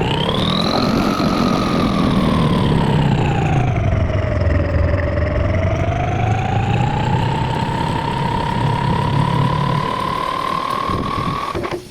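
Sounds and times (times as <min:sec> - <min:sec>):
low hum: 0:00.0 - 0:11.7
lathe whine: 0:00.0 - 0:11.9.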